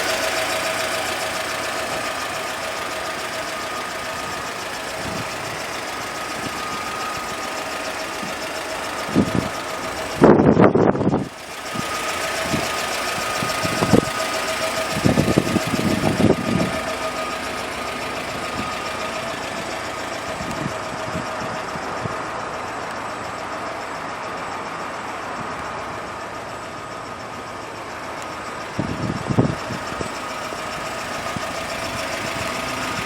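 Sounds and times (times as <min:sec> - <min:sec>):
engine idling with thin whine: 0:00.0 - 0:33.0.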